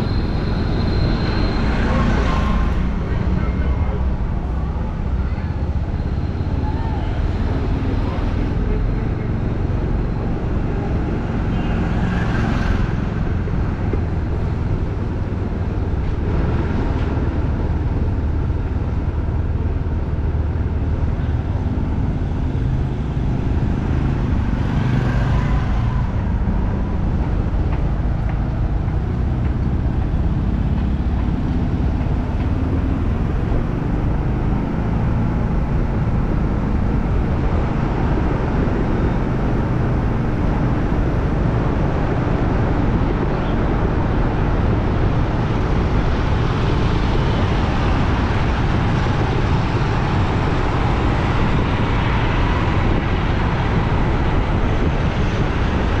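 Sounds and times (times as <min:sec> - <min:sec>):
city street traffic: 0:00.0 - 0:56.0.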